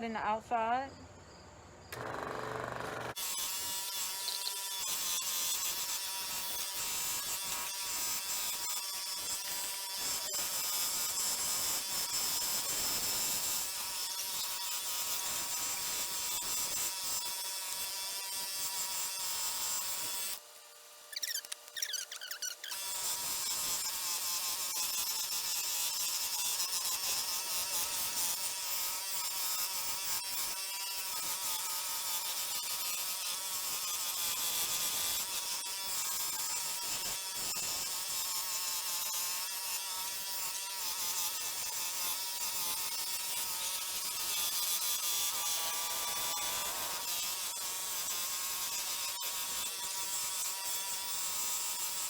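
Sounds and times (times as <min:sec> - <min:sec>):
scroll saw buzzing: 0:01.8 - 0:52.0.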